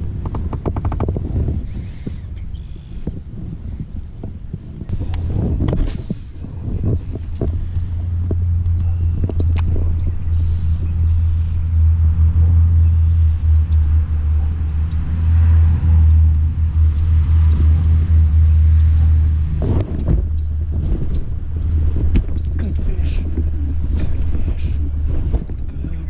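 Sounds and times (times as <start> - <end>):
boat motor rumbling: 0.0 - 26.0.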